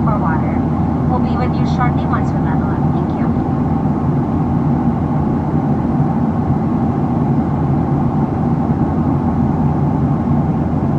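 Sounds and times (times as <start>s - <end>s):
airplane cabin drone: 0.0s - 10.9s.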